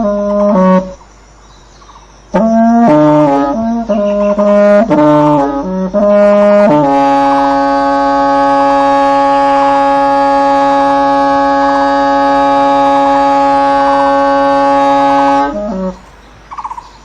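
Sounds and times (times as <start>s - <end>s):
wind instrument melody: 0.0s - 1.0s, 2.3s - 16.7s.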